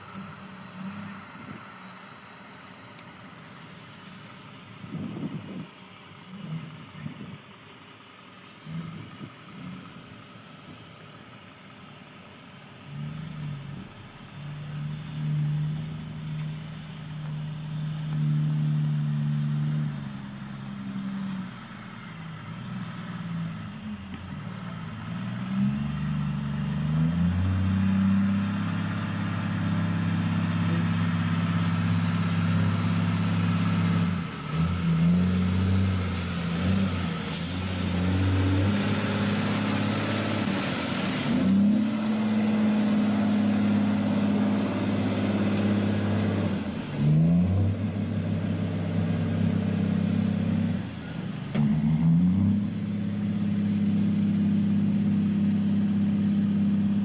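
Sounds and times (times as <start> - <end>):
truck diesel engine under load: 0.0 - 57.0.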